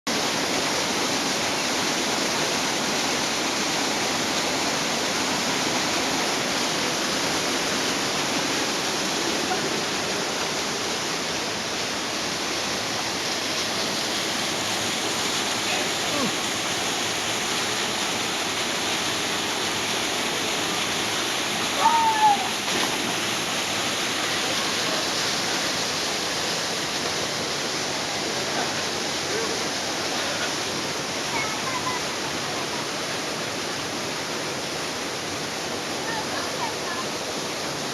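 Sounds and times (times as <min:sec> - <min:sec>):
waterfall pouring: 0:00.1 - 0:32.7.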